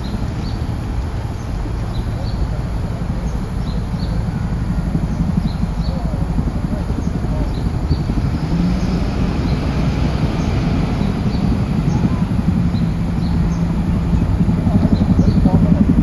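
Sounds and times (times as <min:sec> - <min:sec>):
helicopter rotors beating: 0:00.0 - 0:16.0.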